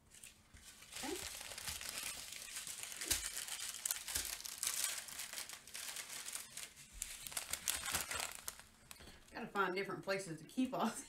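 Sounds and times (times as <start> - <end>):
plastic bags crinkling: 0.1 - 9.4.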